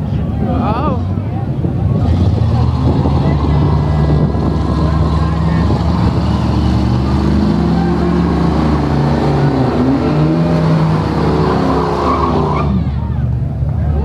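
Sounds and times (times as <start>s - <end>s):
dense rushing noise: 0.0s - 14.0s
car engine revving high: 1.8s - 14.0s.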